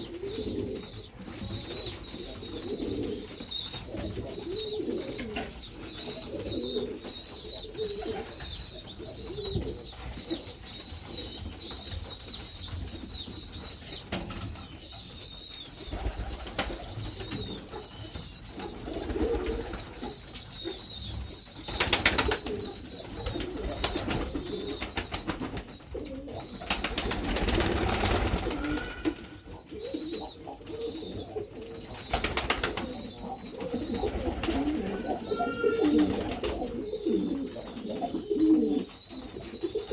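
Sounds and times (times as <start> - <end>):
birds twittering: 0.0 - 39.9
pigeons cooing: 0.0 - 39.9.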